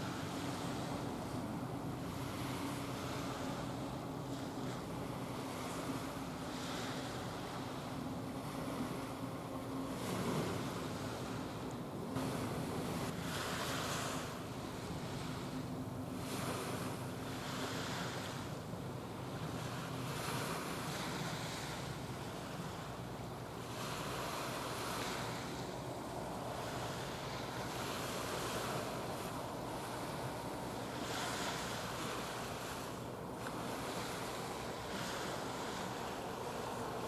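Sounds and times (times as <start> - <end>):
low steady drone: 0.0 - 37.0
water lapping: 0.0 - 37.0.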